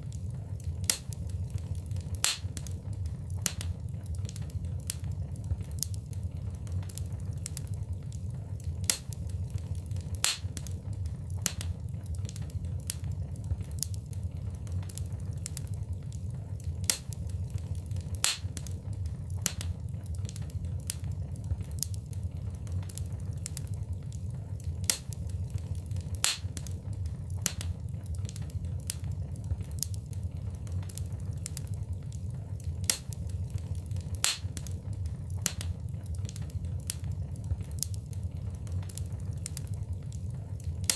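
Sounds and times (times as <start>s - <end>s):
low rumble: 0.0s - 40.9s
sharp pops of fire: 0.0s - 40.9s
wood fire crackling: 0.0s - 40.9s.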